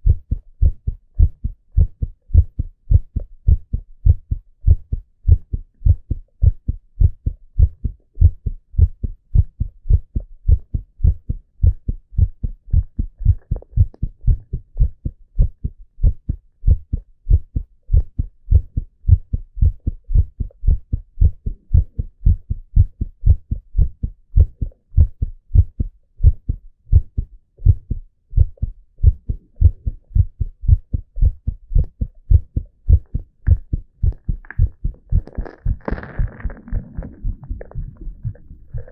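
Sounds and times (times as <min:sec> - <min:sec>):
heart beating: 0:00.0 - 0:38.9.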